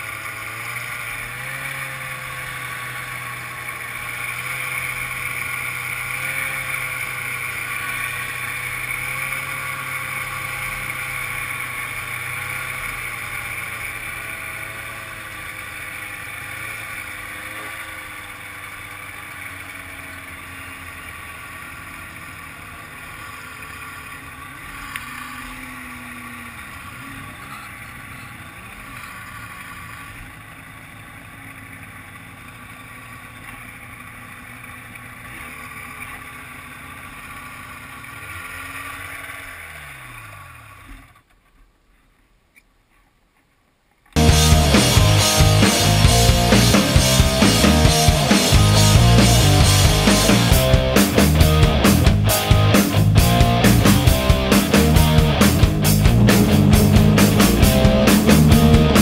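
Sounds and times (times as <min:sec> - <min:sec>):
snowmobile two-stroke engine running: 0:00.0 - 0:41.3, 0:44.2 - 0:59.0.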